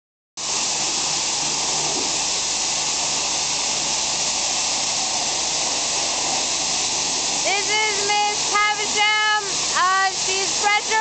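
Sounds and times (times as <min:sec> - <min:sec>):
pressure washer spraying: 0:00.4 - 0:11.0.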